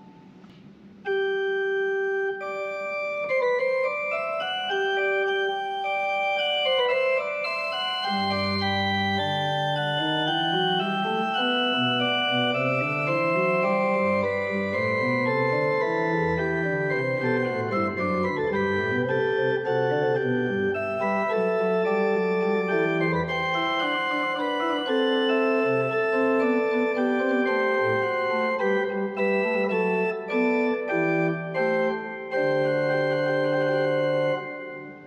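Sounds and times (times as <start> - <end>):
pipe organ playing baroque music: 1.0 - 35.0.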